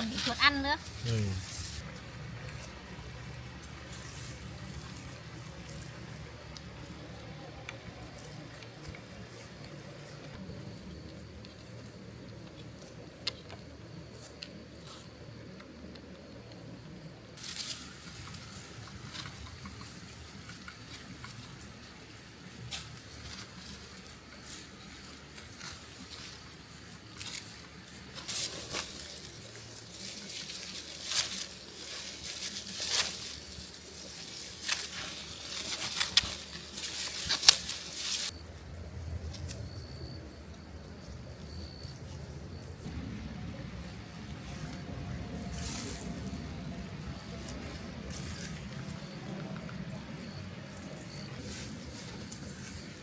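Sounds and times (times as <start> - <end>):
dry vegetation rustling and snapping: 0.0 - 10.4, 17.4 - 38.4, 41.4 - 53.0.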